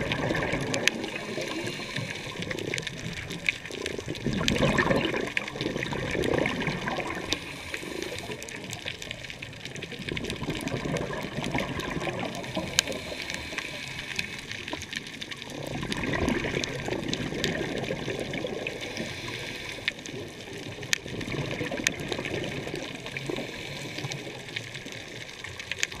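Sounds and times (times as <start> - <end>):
faint clicks: 0.0 - 26.0
underwater air bubbles: 0.0 - 26.0.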